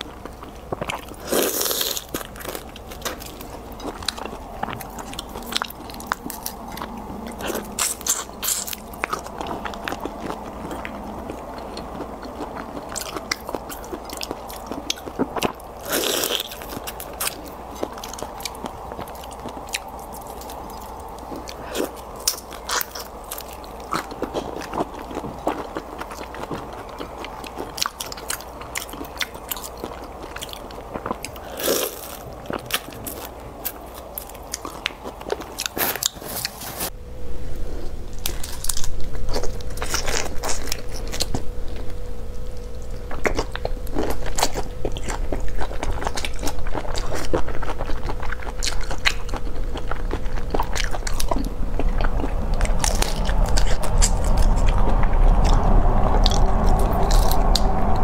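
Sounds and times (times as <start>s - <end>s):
wet chewing and sucking: 0.0s - 37.0s, 37.8s - 58.0s.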